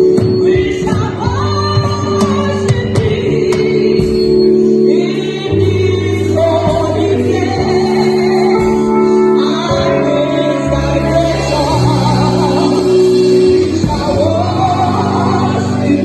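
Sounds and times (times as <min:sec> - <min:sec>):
gospel voices singing together: 0:00.0 - 0:16.0
held chords: 0:00.0 - 0:16.0
low bass line: 0:00.0 - 0:16.0.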